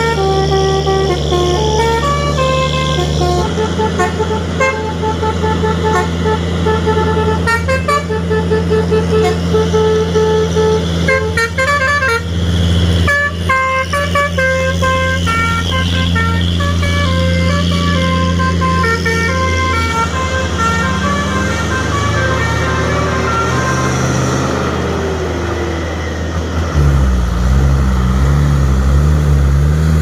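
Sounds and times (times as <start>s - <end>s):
truck musical horn playing tune: 0.0s - 26.1s
truck engine drone: 0.0s - 30.0s.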